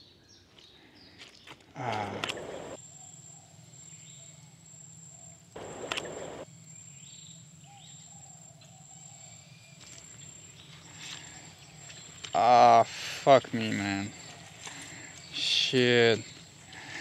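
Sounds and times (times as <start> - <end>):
soft bird calls: 0.0 - 4.5, 5.1 - 17.0.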